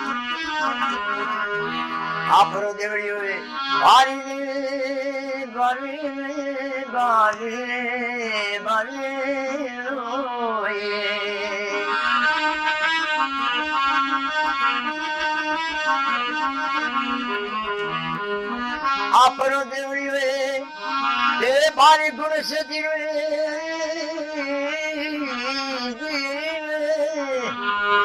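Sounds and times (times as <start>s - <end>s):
devotional song melody: 0.0s - 28.0s.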